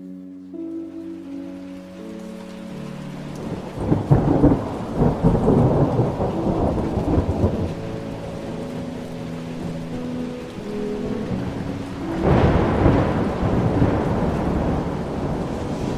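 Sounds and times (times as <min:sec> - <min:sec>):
steady rain: 0:00.0 - 0:15.9
thunder rumbling: 0:00.6 - 0:15.9.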